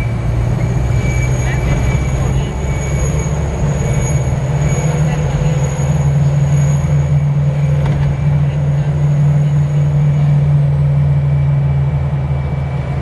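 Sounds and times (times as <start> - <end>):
diesel engine drone: 0.0 - 13.0
road noise: 0.0 - 13.0.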